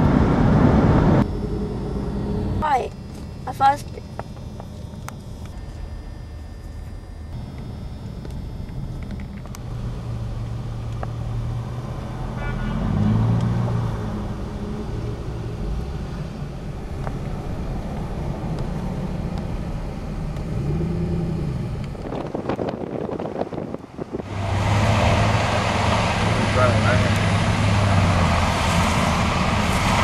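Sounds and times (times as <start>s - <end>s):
car engine running: 0.0s - 30.0s
road noise: 0.0s - 30.0s.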